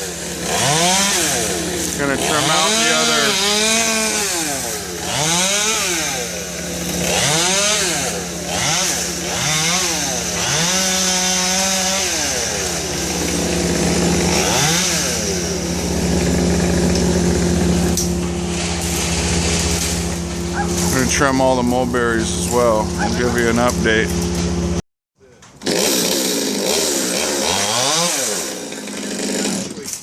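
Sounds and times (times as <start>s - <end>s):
chainsaw engine revving: 0.0s - 24.8s, 25.6s - 30.0s.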